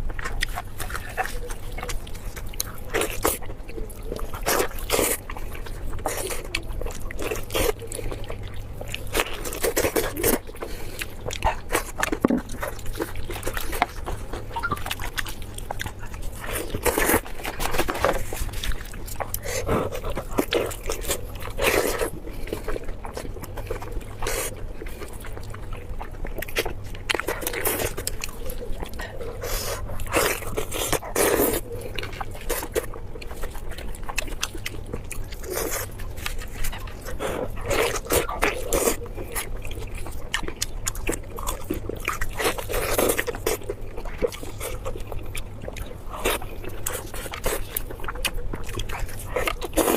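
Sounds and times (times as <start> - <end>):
low steady hum: 0.0 - 49.9
person chewing: 0.0 - 49.9.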